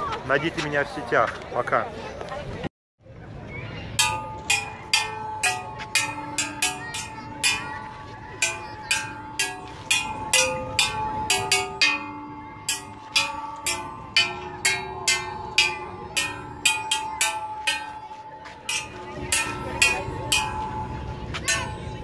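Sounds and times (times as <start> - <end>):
steady held tone: 3.9 - 22.0
upbeat bell-like music: 4.0 - 22.0.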